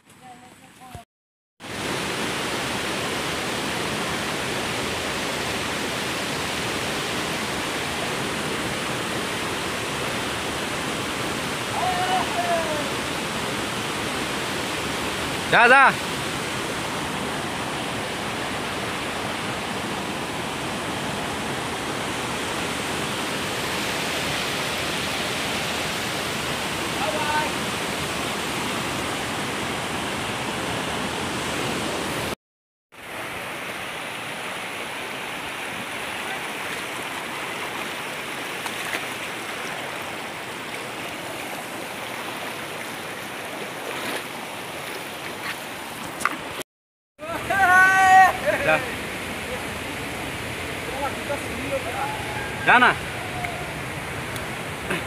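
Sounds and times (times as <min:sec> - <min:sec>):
stream rushing over boulders: 0:01.6 - 0:32.4, 0:33.0 - 0:46.6, 0:47.2 - 0:55.0.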